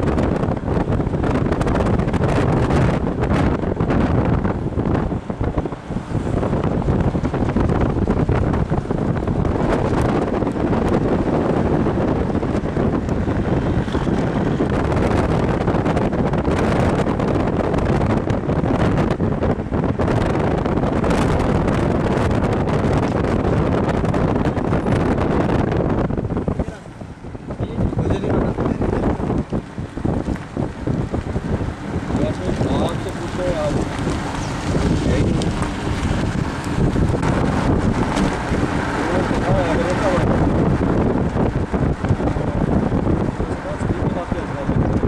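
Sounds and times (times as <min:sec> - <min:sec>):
vehicle road noise: 0:00.0 - 0:45.0
wind buffeting microphone: 0:00.0 - 0:45.0.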